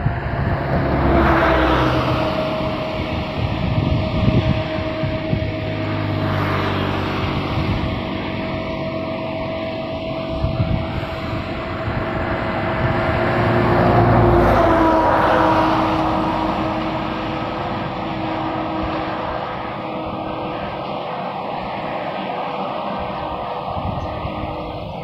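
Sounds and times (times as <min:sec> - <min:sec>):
passing engine hum: 0:00.0 - 0:25.0.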